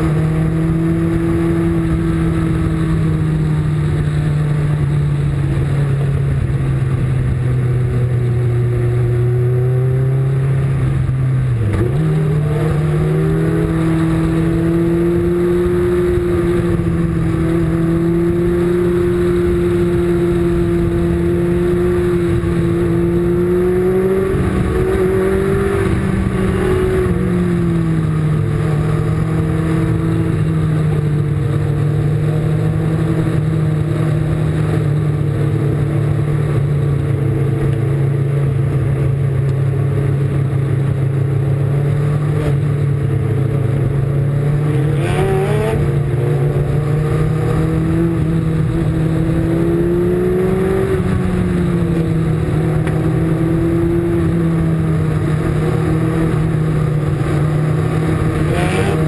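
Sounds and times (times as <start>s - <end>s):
race car engine at high revs: 0.0s - 59.0s
wind and road noise: 0.0s - 59.0s.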